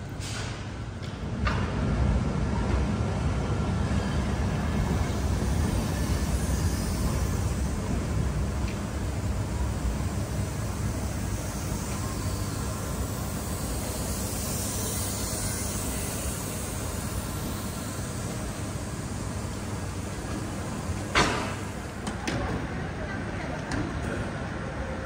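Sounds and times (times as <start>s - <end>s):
train low rumble and hiss: 0.0s - 25.0s.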